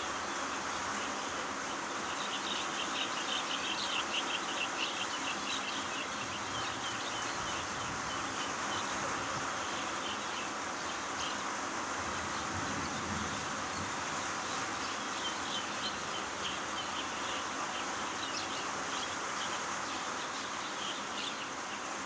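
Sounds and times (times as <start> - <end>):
rain falling: 0.0 - 22.0
bird chirping: 0.3 - 22.0.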